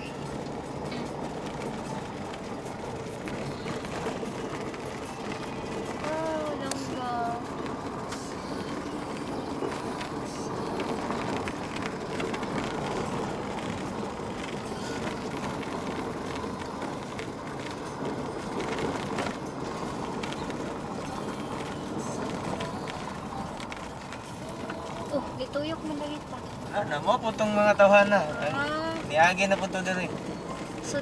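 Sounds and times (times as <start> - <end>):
tyres rumbling on gravel: 0.0 - 31.0
grit and stones ticking: 0.1 - 31.0.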